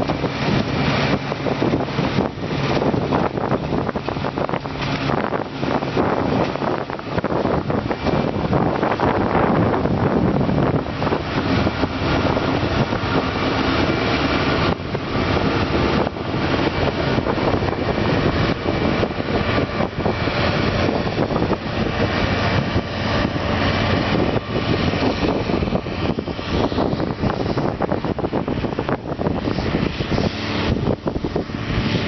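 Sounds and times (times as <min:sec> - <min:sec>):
harvest machinery running: 0:00.0 - 0:32.0.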